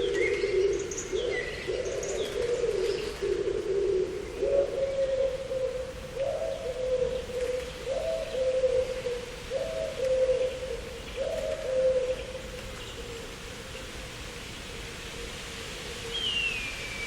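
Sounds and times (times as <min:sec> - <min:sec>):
dove cooing: 0:00.0 - 0:13.7
faint steady hiss: 0:00.0 - 0:17.0.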